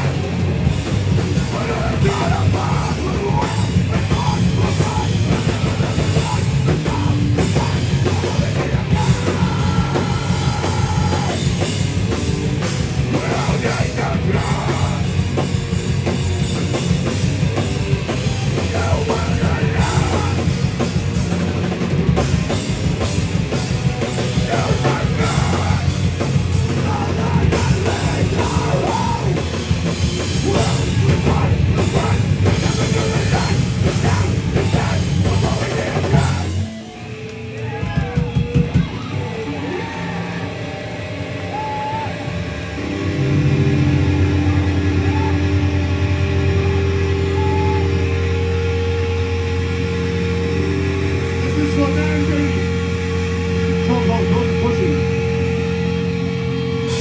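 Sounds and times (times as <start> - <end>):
amplifier noise: 0.0 - 57.0
distorted guitars: 0.0 - 57.0
heavy metal band playing: 0.0 - 57.0
pounding drum kit: 0.0 - 57.0.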